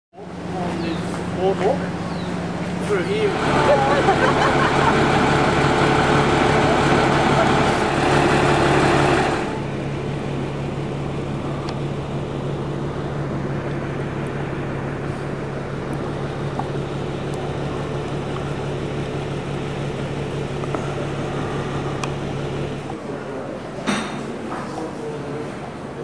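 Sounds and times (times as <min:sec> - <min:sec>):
diesel bus engine idling: 0:00.2 - 0:23.7.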